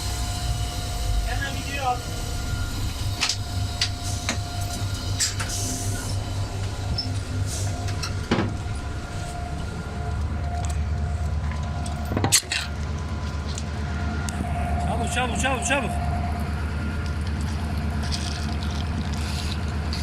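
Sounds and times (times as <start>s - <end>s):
train engine rumbling: 0.0s - 20.0s.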